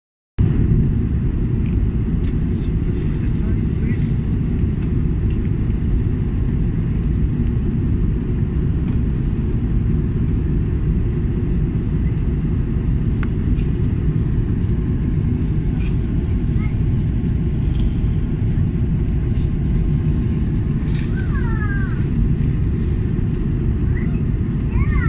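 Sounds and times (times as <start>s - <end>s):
jet engine cabin rumble: 0.4s - 25.0s.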